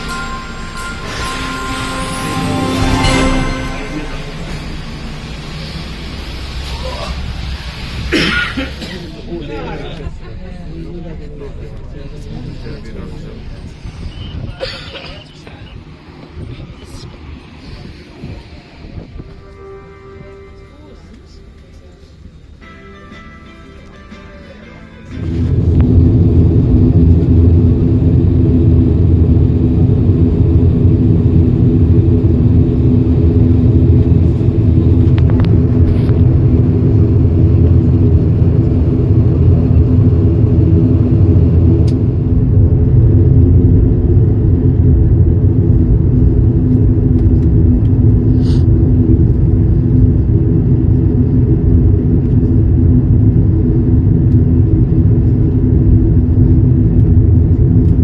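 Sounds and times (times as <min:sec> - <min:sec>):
airliner engines and propellers rumble: 0:00.0 - 0:58.0
steady humming tones: 0:00.0 - 0:58.0.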